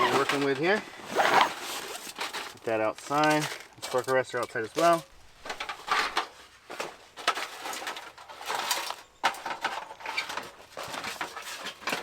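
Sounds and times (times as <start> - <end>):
rustling: 0.0 - 12.0
light metal knocks and clatter: 2.1 - 12.0.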